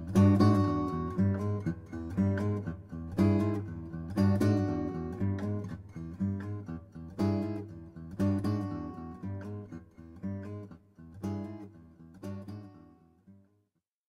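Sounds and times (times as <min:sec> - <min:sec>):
acoustic guitar strumming chords: 0:00.0 - 0:13.2.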